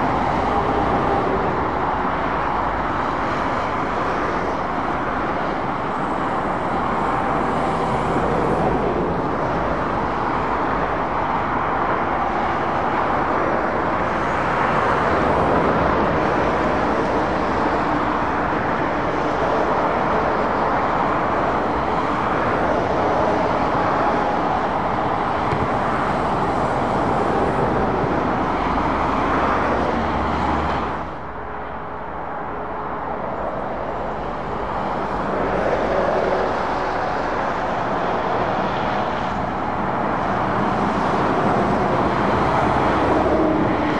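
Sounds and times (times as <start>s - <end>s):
motorway traffic rushing: 0.0s - 43.9s.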